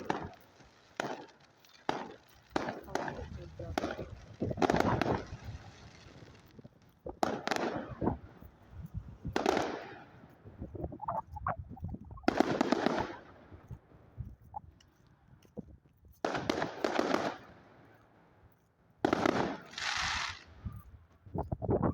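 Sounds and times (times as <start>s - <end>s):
fireworks bangs and crackle: 0.0s - 11.3s, 11.9s - 18.0s, 19.0s - 21.9s.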